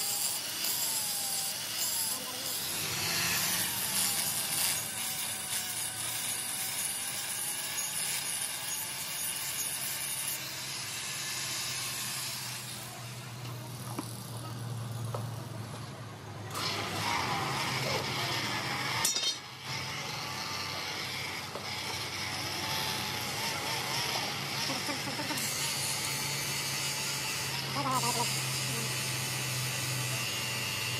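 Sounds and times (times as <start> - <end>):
angle grinder grinding metal: 0.0 - 15.3, 16.5 - 30.9.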